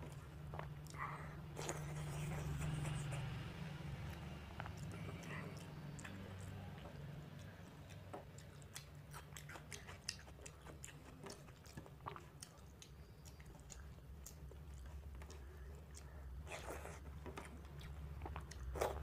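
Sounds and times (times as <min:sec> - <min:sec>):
chewing: 0:00.0 - 0:19.0.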